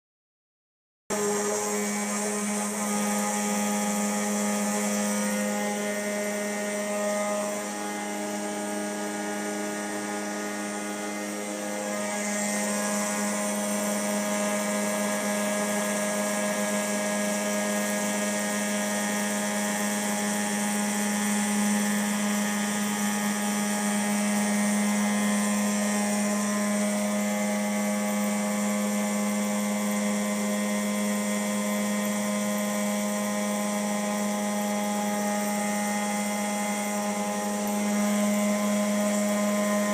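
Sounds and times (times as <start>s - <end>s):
machine whine: 1.1s - 39.9s.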